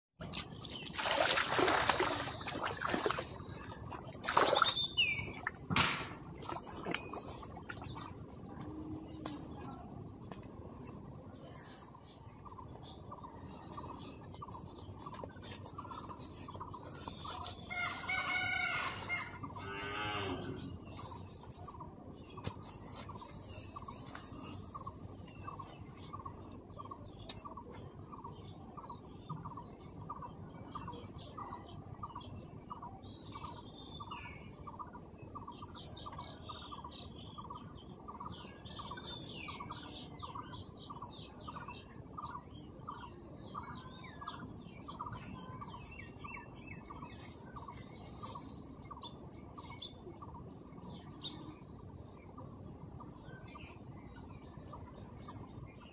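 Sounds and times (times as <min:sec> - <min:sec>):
small birds chirping: 0:00.2 - 0:55.9.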